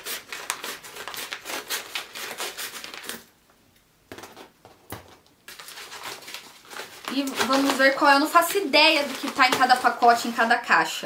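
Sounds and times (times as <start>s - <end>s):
package crinkling and rustling: 0.0s - 3.3s, 4.1s - 10.6s.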